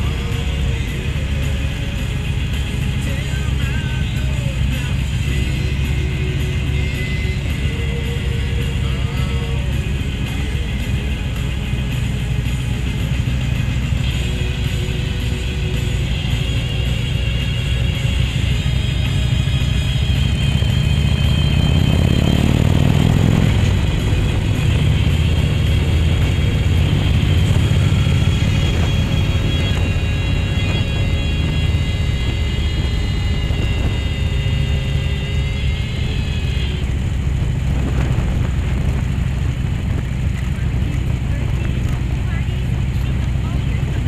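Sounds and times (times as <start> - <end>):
faint music: 0.0 - 44.0
motorcycle engine accelerating: 0.0 - 44.0
road and wind noise: 0.0 - 44.0.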